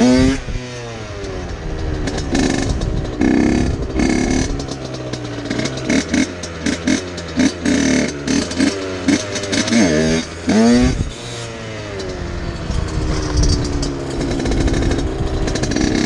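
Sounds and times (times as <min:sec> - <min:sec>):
two-stroke dirt bike engine revving: 0:00.0 - 0:16.0.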